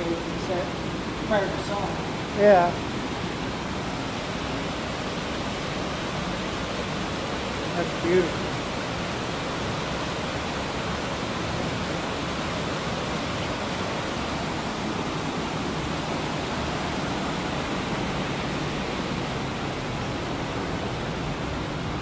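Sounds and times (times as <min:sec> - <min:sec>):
running water in cave stream: 0:00.0 - 0:22.0.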